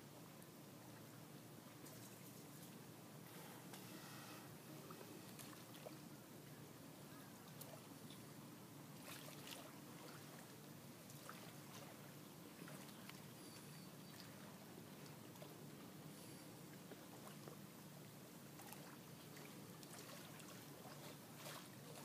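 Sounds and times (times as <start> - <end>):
soft water sounds: 0.0 - 22.0.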